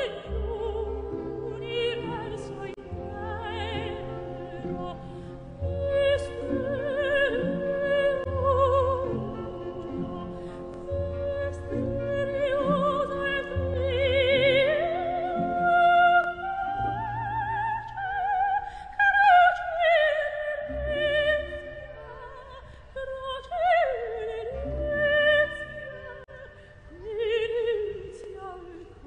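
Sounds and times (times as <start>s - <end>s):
operatic voice singing with vibrato: 0.0s - 29.0s.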